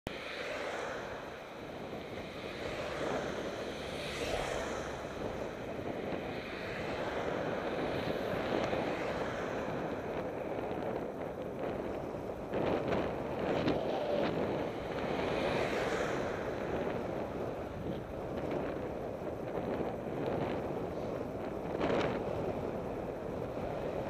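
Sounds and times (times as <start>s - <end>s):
wind rushing over microphone: 0.1s - 24.0s.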